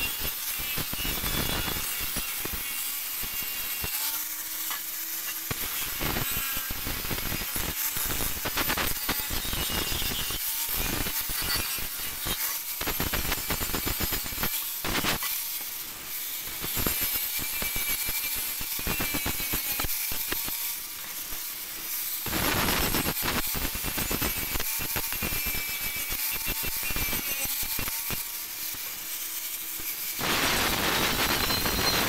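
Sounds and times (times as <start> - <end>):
angle grinder whine: 0.0 - 32.0.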